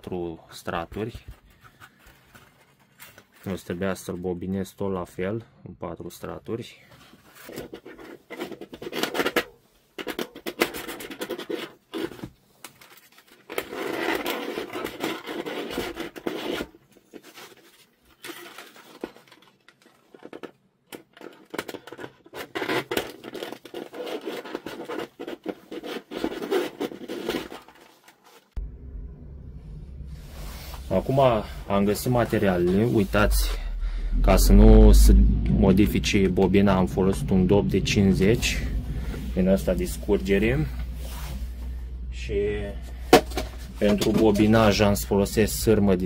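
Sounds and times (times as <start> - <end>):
scratching and rubbing: 1.0 - 3.8, 7.1 - 28.6, 30.0 - 46.0.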